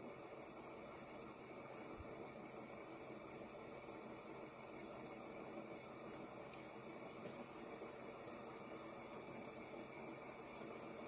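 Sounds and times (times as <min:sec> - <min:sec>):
fidget spinner whirring: 0:00.0 - 0:11.0.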